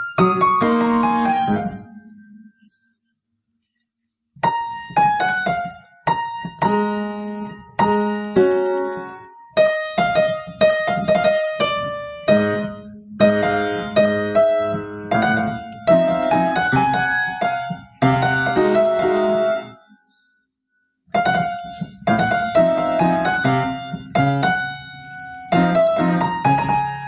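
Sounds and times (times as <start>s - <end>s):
upright piano playing a waltz: 0.0s - 2.3s, 4.4s - 19.8s, 21.1s - 27.0s.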